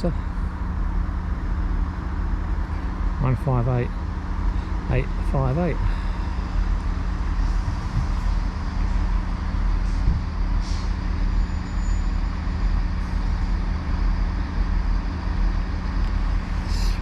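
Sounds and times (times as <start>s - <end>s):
train diesel engine droning: 0.0s - 17.0s.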